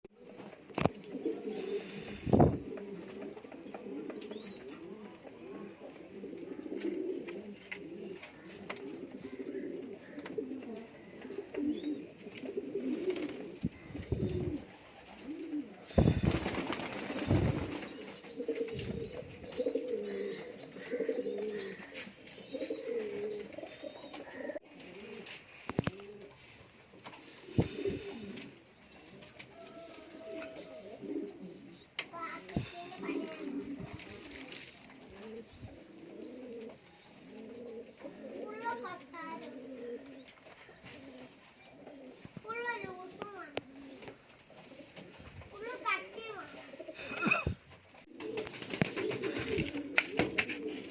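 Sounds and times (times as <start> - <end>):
pigeons cooing: 0.1 - 50.9.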